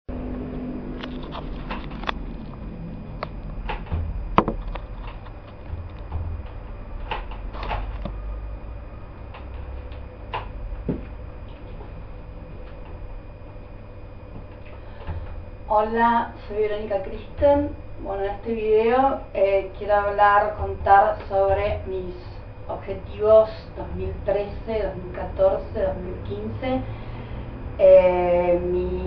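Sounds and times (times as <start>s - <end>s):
low rumble: 0.1s - 27.9s.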